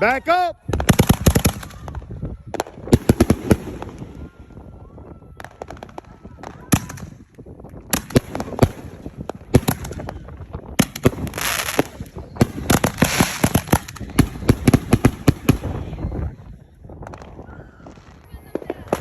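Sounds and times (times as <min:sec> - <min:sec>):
fireworks bangs: 0:00.0 - 0:19.0
fireworks hissing crackle: 0:00.0 - 0:19.0.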